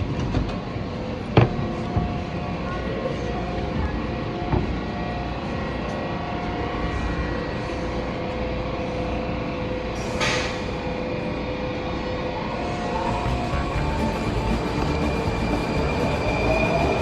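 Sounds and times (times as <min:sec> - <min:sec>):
train rumbling with tonal hum: 0:00.0 - 0:17.0.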